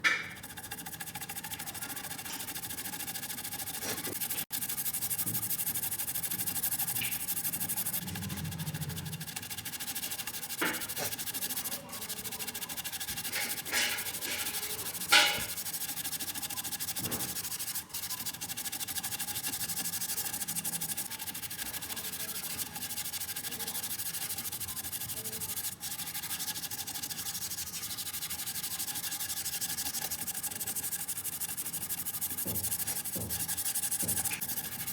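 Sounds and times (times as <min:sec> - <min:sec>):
coin being scrubbed: 0:00.0 - 0:34.9.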